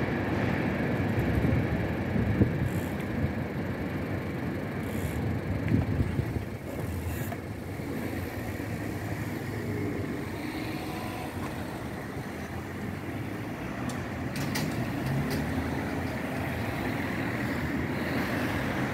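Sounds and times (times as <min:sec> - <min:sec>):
cars rumbling over level crossing: 0:00.0 - 0:18.9.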